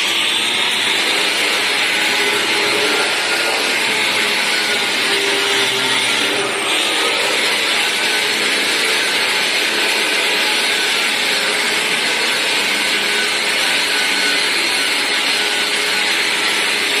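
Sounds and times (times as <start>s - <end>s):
drywall sander whirring: 0.0s - 17.0s.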